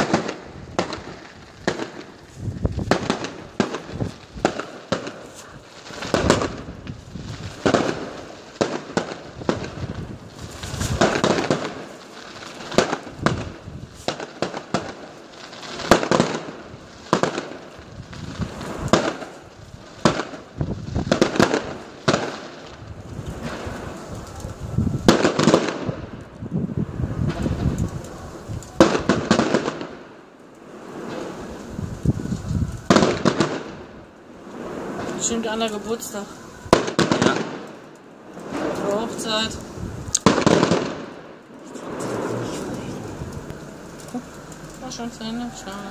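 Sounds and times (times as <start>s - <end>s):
fireworks bangs: 0.0s - 45.9s
fireworks crackling: 0.0s - 45.9s.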